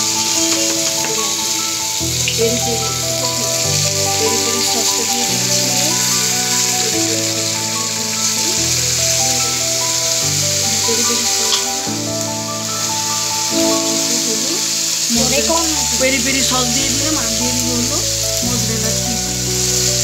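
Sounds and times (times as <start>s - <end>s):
background music: 0.0s - 20.0s
chicken sizzling in frying pan: 0.0s - 20.0s.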